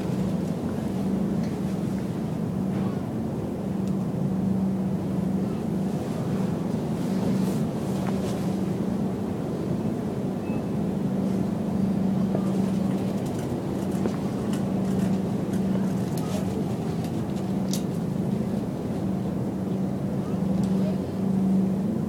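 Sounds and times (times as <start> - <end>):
low constant hum: 0.0 - 22.0.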